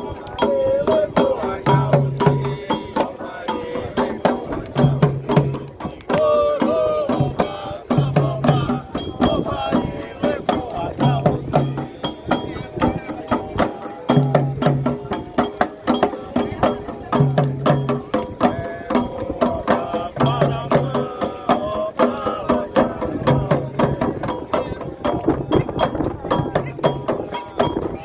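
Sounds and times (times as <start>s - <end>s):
hand drums in repeating rhythm: 0.0s - 28.0s
voices singing: 0.0s - 28.0s.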